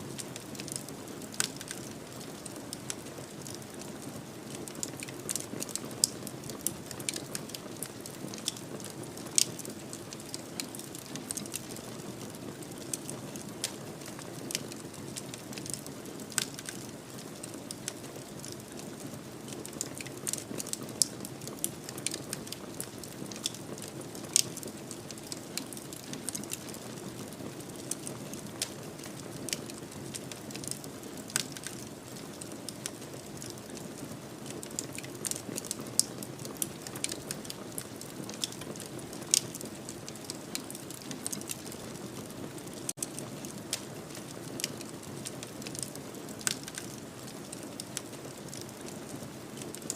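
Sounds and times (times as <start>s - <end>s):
fire crackling and popping: 0.0s - 49.9s.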